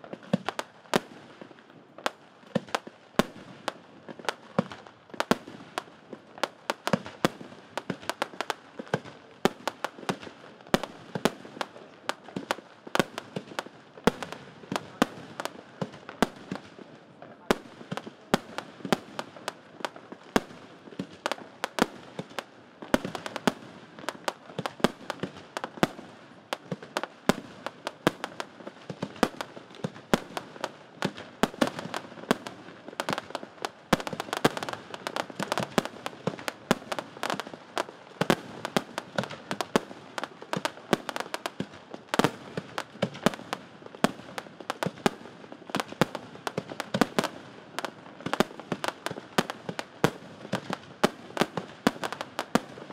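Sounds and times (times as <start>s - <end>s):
fireworks crackle: 0.0s - 52.9s.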